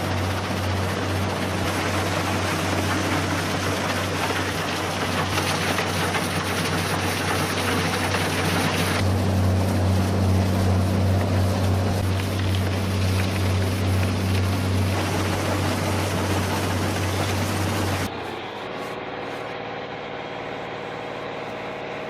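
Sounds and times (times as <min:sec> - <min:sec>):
wood-processing machine grinding: 0:00.0 - 0:22.0.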